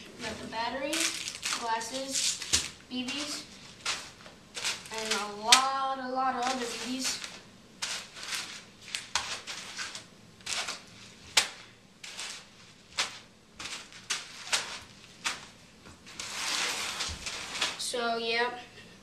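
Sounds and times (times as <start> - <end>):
packaging rustling: 0.8 - 5.7, 6.4 - 17.8
plastic bags crinkling: 0.8 - 17.8.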